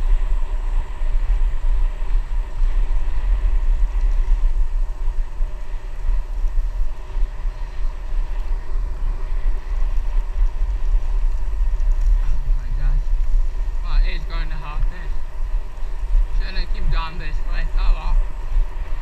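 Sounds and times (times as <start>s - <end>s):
bicycle rolling on wet road: 0.0s - 19.0s
wind rumbling on microphone: 0.0s - 19.0s.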